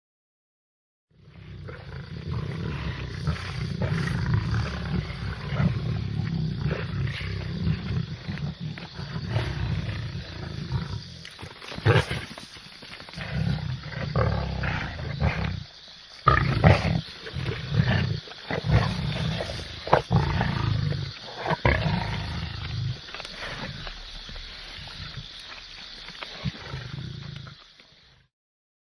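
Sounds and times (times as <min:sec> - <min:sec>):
lion roaring: 0:01.2 - 0:12.4, 0:13.1 - 0:25.3.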